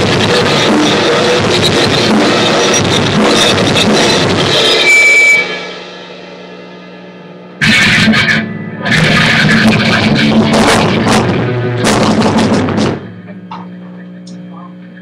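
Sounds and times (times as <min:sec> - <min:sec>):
drum kit playing rock: 0:00.0 - 0:13.6
electric guitar through amplifier: 0:00.0 - 0:15.0
low amplifier hum: 0:00.0 - 0:15.0.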